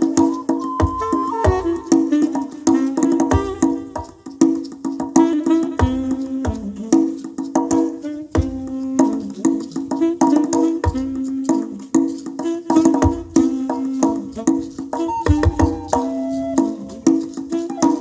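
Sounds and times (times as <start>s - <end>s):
saxophone melody: 0.0s - 18.0s.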